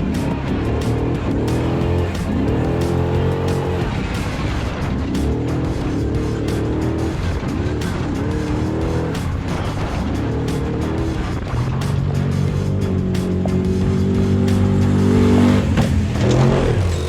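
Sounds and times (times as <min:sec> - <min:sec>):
background music: 0:00.0 - 0:17.0
truck engine revving: 0:00.0 - 0:17.0.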